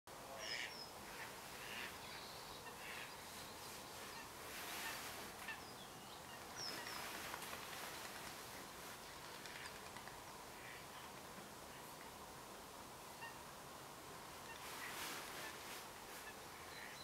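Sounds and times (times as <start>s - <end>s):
distant bird calls: 0.2s - 12.2s, 13.1s - 13.5s, 14.4s - 17.0s.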